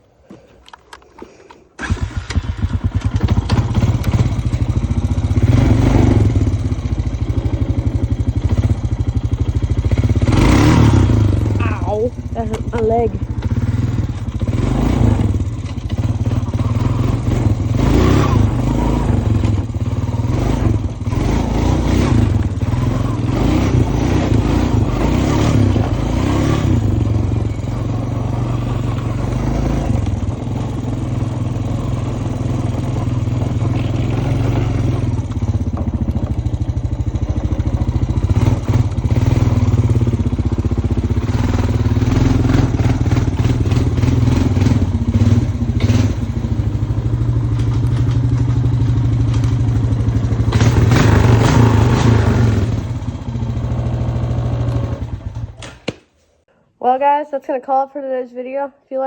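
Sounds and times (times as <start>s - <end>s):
quad bike engine running: 0.6s - 56.0s
machine rattling over rough ground: 1.8s - 53.0s.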